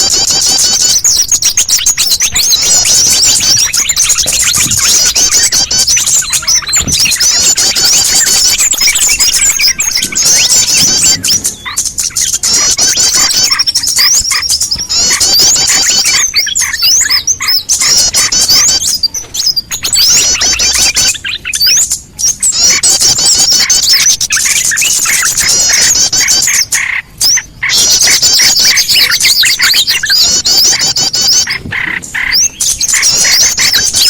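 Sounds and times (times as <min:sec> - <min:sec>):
small birds chirping and trilling: 0:00.0 - 0:34.0.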